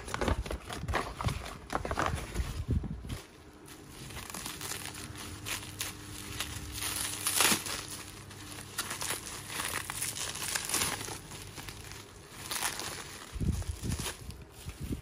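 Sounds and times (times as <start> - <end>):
bubble wrap crinkling and crackling: 0.0 - 15.0.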